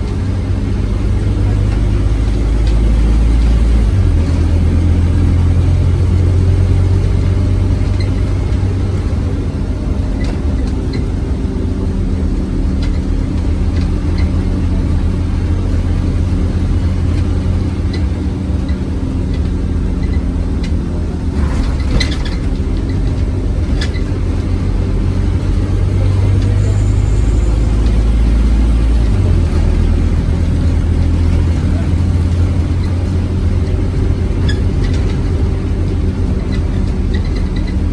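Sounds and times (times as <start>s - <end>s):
bus engine low drone: 0.0s - 37.9s.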